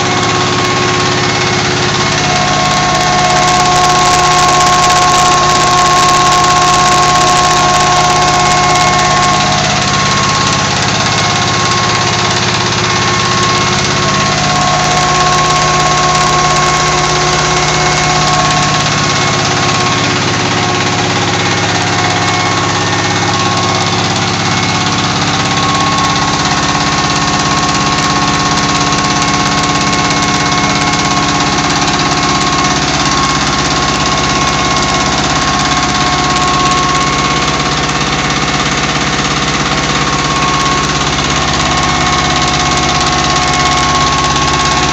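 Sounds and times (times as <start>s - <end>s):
constant mechanical whine: 0.0s - 44.9s
diesel engine drone: 0.0s - 44.9s
stone mill grinding: 0.0s - 44.9s.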